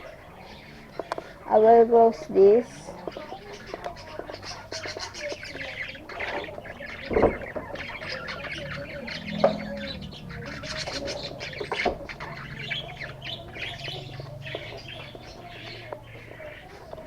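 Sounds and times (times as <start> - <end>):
parakeets chirping and squawking: 0.0 - 17.0.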